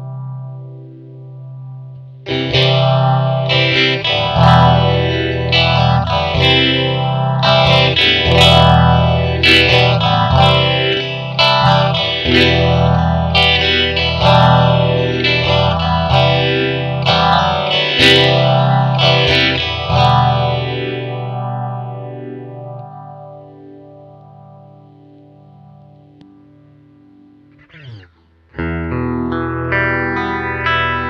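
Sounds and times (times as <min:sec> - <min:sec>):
electric guitar chords with phaser: 0:00.0 - 0:31.0.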